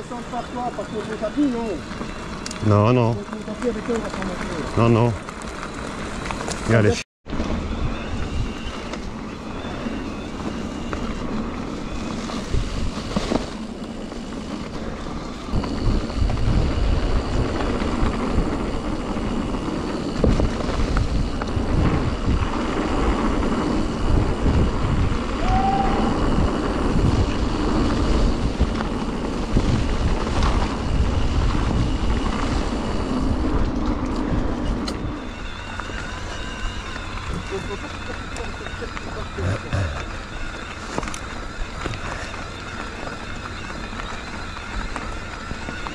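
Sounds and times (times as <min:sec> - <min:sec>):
bike rolling noise: 0:00.0 - 0:45.9
wind buffeting microphone: 0:05.9 - 0:45.9.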